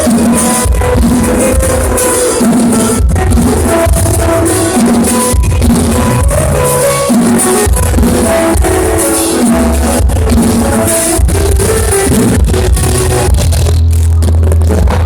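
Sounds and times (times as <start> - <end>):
live band playing: 0.0 - 13.8
drums: 0.0 - 15.0
heavy bass: 0.0 - 15.0.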